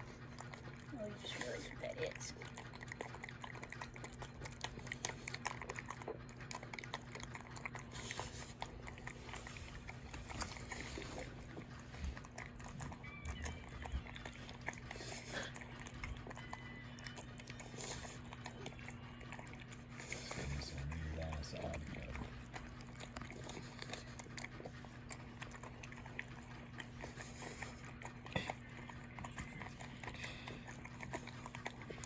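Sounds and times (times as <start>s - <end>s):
dog chewing food: 0.0s - 32.0s.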